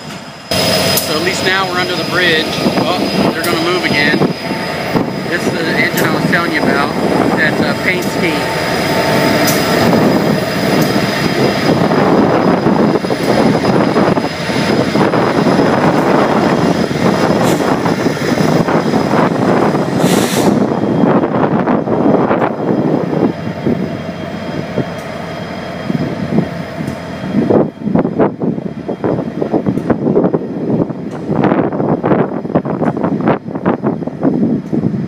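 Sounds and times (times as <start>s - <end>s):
diesel locomotives rolling past: 0.0s - 35.0s.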